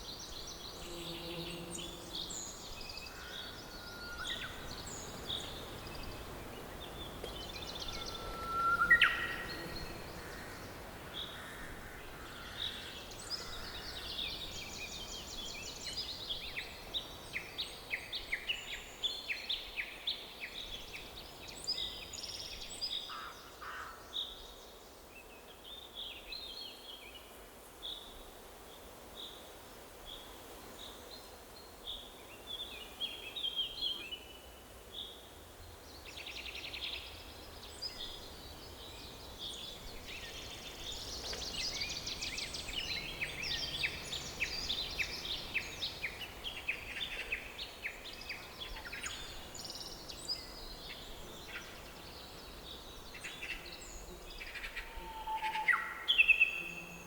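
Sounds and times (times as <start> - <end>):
songbirds chirping and trilling: 0.0 - 23.4, 31.0 - 57.0.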